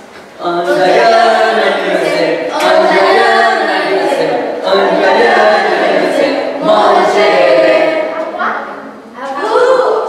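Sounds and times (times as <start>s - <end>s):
group singing unaccompanied: 0.4s - 10.0s.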